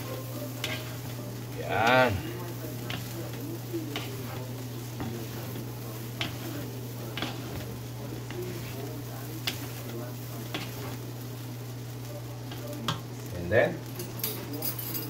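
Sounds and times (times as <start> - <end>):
spatula stirring rice in wok: 0.0 - 13.3
steady low hum: 0.0 - 14.1
light sizzle: 0.0 - 15.0.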